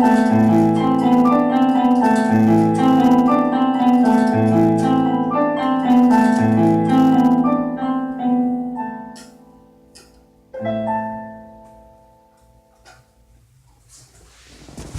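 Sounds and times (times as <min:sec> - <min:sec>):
piano playing slow notes and chord: 0:00.0 - 0:13.3.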